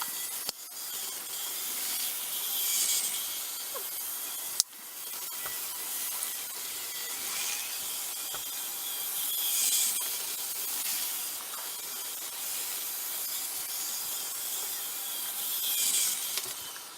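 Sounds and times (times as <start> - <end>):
small motors running: 0.0 - 16.9.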